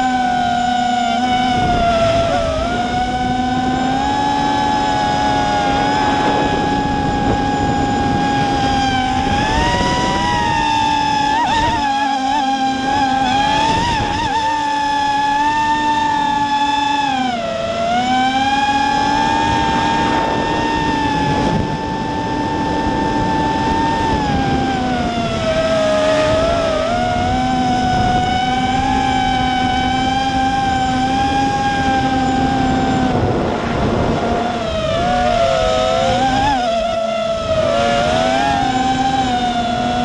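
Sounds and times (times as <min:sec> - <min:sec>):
quadcopter motors whining: 0:00.0 - 0:40.0.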